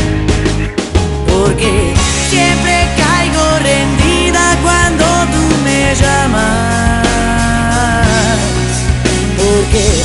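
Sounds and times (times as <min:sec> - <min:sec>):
pop-rock band backing: 0:00.0 - 0:10.0.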